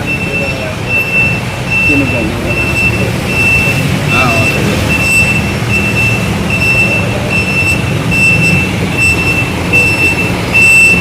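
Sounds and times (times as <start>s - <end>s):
low engine rumble: 0.0s - 11.0s
reversing alarm beeping: 0.0s - 11.0s.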